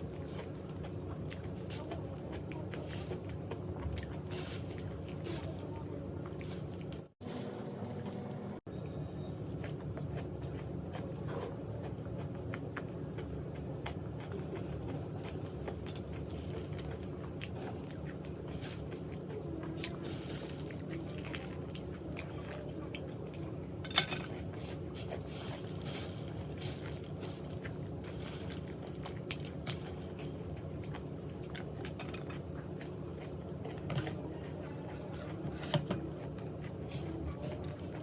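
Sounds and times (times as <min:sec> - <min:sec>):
person chewing crunchy food: 0:00.0 - 0:07.2, 0:09.3 - 0:38.0.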